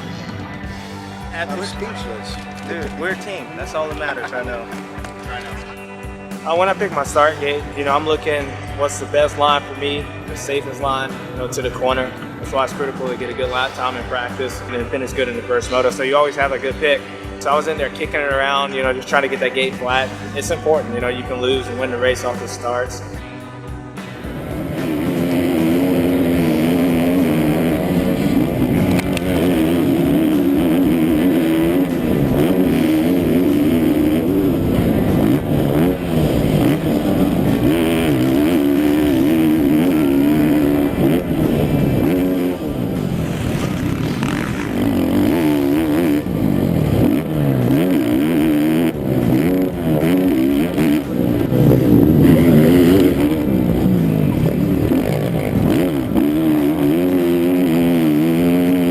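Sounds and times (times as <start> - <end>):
motocross bike engines revving: 0.0 - 58.9.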